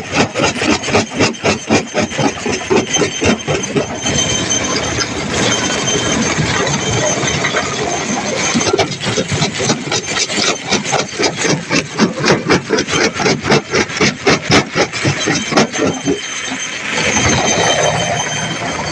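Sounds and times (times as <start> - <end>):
fast regular mechanical pounding: 0.0 - 18.9
heavy machinery running: 0.0 - 18.9.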